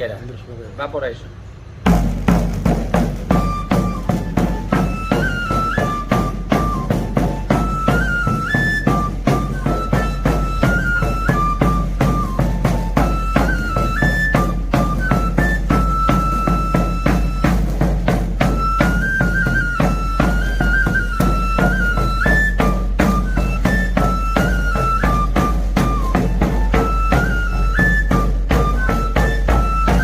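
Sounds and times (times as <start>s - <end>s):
drum beats: 1.8s - 30.0s
shrill pipe melody: 2.4s - 30.0s.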